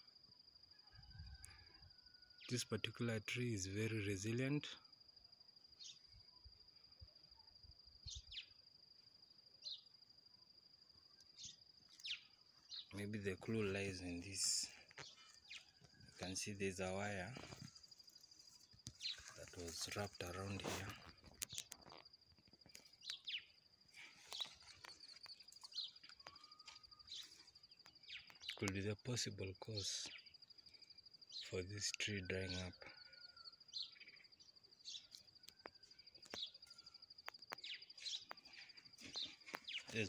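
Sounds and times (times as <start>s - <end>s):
high-pitched insect tone: 0.0s - 40.0s
bird chirps: 5.6s - 8.7s, 9.5s - 40.0s.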